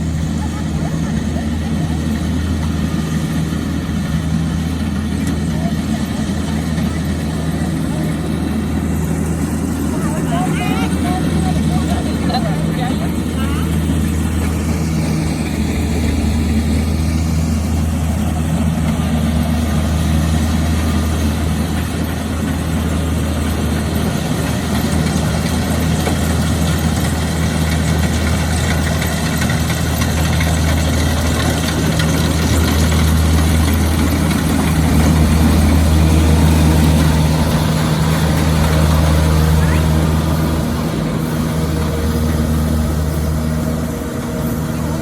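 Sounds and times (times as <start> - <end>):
harvesting machine engine humming: 0.0 - 45.0.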